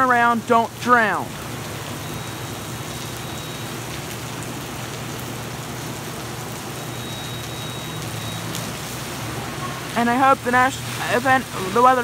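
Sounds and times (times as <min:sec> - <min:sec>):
heavy rain splashing on pavement: 0:00.0 - 0:12.0
sharp raindrop ticks: 0:00.0 - 0:12.0.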